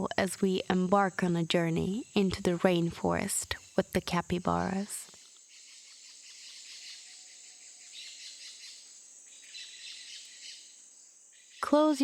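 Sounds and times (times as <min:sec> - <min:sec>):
insects droning: 0:00.0 - 0:12.0
bird chirps: 0:01.9 - 0:12.0.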